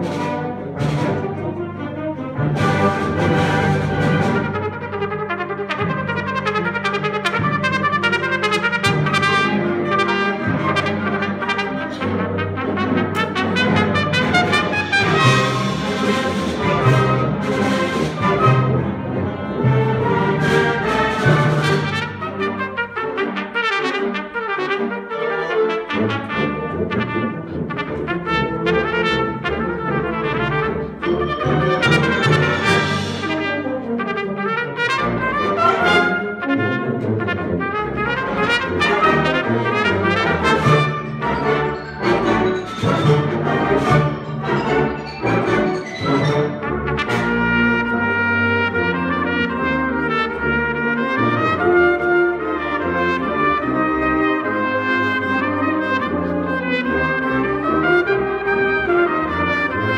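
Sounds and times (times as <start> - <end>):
concert band playing: 0.0 - 59.9
trumpet solo melody: 0.4 - 59.9.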